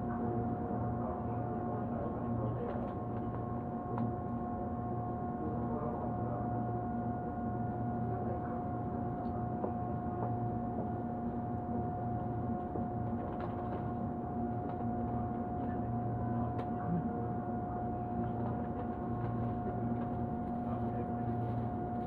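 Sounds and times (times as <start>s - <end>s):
train carriage low hum: 0.0s - 22.0s.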